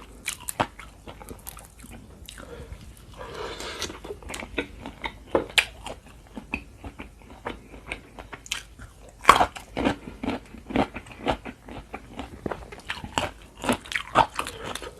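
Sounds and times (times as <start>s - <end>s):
person chewing crunchy food: 0.0s - 14.9s.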